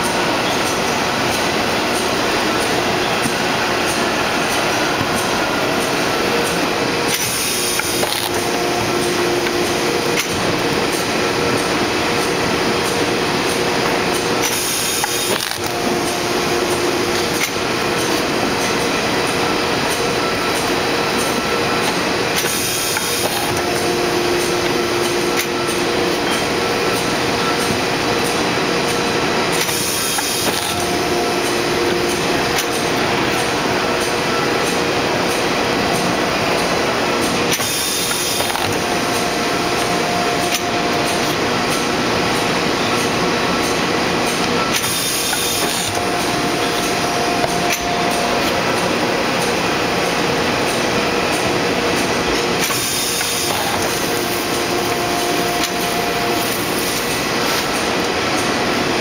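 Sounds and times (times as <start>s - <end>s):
paper cutter machine running: 0.0s - 59.0s.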